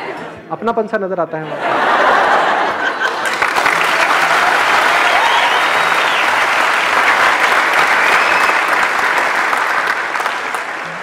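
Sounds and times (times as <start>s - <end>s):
large audience applause: 2.1s - 11.0s.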